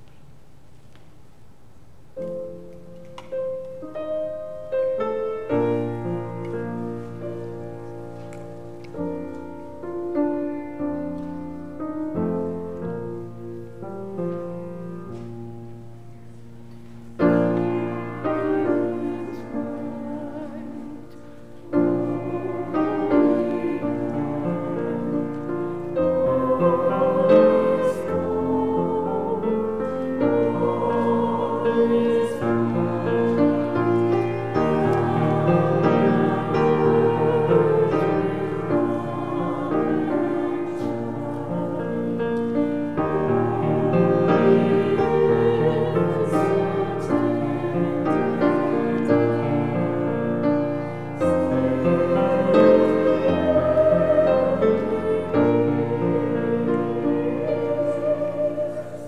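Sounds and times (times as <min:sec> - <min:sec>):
piano playing a slow hymn: 0:01.7 - 0:59.0
congregation singing: 0:02.2 - 0:59.0.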